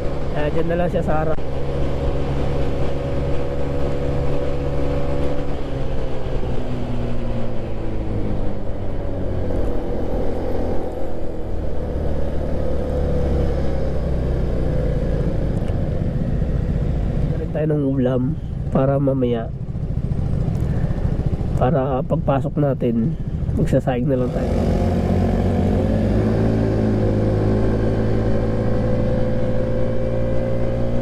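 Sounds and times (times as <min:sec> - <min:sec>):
wind and road rush: 0:00.0 - 0:31.0.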